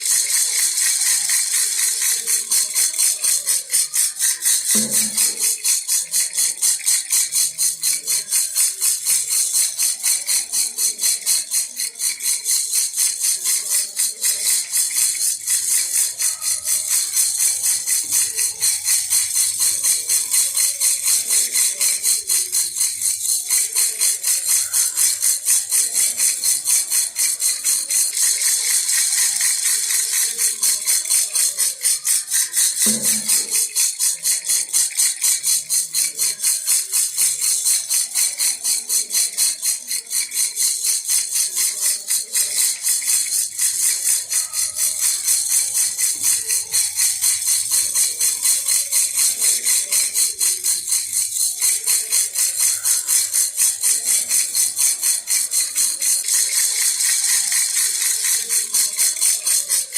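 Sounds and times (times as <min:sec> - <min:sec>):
baby rattle shaking: 0:00.0 - 0:59.9.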